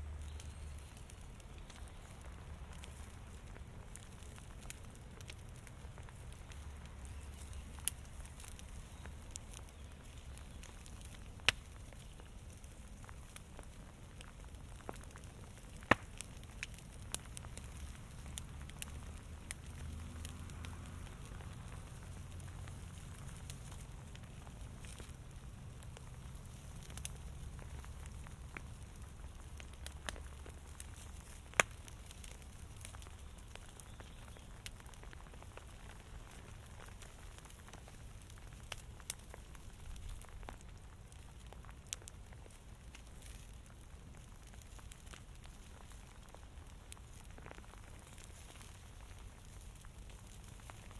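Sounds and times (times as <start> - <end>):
fire crackling: 0.0 - 50.9.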